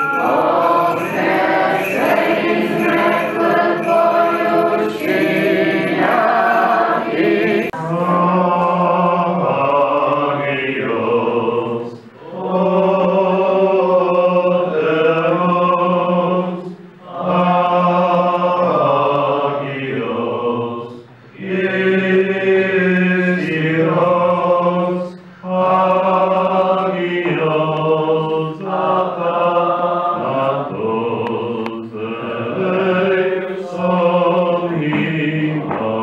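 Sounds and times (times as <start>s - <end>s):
voices singing liturgical chant: 0.0s - 36.0s.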